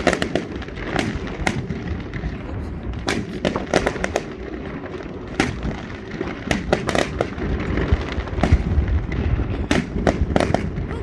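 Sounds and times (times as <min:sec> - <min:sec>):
fireworks bangs and crackles: 0:00.0 - 0:11.0
low rumble of booms: 0:00.0 - 0:11.0.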